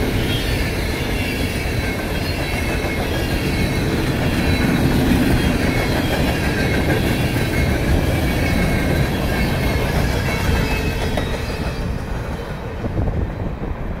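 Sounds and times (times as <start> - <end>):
train wheels rumbling on rails: 0.0 - 14.0
faint high wheel squeal: 0.2 - 12.4.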